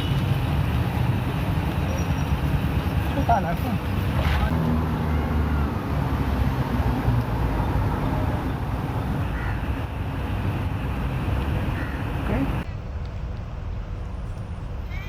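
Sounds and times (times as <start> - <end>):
road traffic: 0.0 - 15.0
vehicle engine rumble: 0.0 - 15.0.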